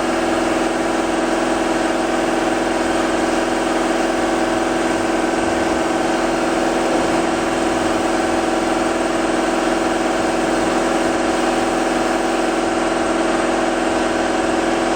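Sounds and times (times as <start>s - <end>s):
car engine idling: 2.2s - 14.9s.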